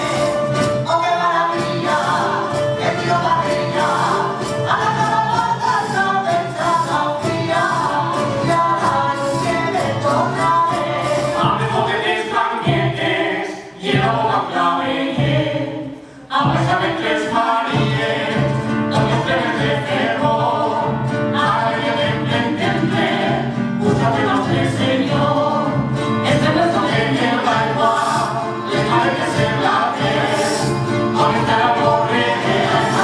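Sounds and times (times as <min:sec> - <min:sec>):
group of voices singing: 0:00.0 - 0:33.0.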